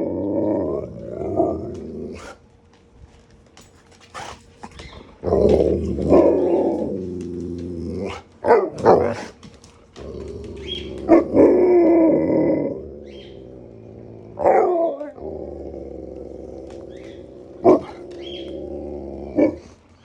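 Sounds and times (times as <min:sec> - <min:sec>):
dogs howling: 0:00.0 - 0:02.4, 0:04.1 - 0:20.0.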